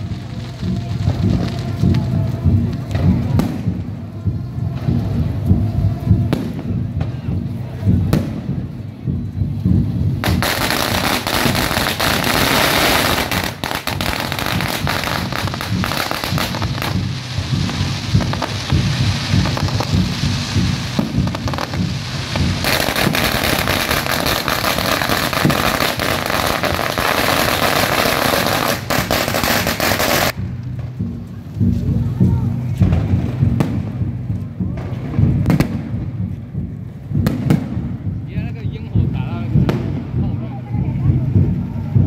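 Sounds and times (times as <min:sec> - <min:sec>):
fireworks crackling and banging: 0:00.0 - 0:42.0.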